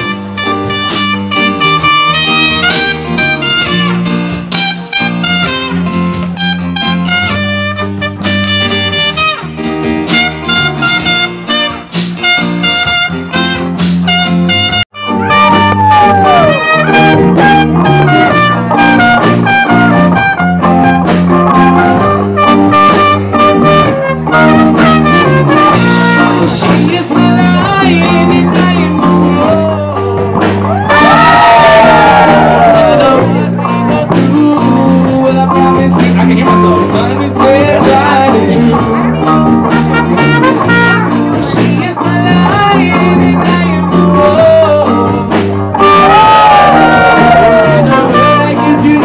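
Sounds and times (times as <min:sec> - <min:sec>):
live band playing: 0:00.0 - 0:49.0.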